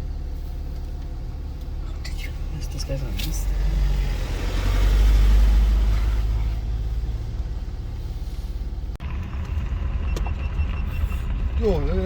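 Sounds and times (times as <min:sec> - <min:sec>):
engine running with low drone: 0:00.0 - 0:12.0.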